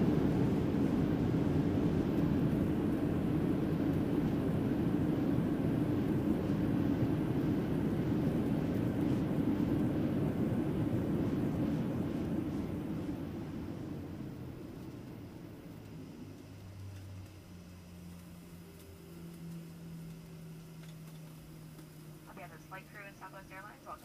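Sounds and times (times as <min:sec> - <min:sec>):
jet engine rumble in cabin: 0:00.0 - 0:24.0.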